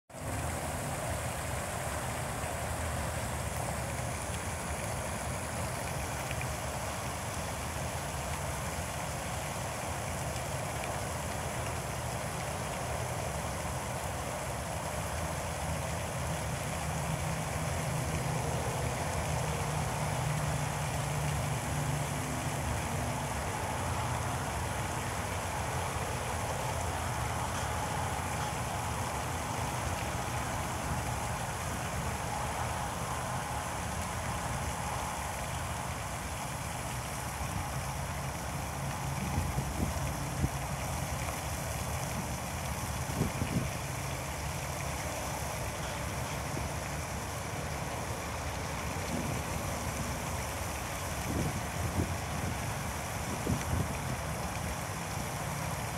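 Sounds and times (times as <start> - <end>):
even hiss: 0.1 - 55.9.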